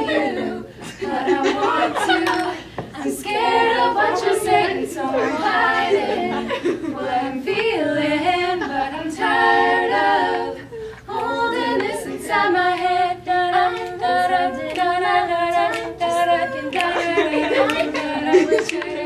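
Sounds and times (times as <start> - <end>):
young voices singing in harmony: 0.0 - 19.0.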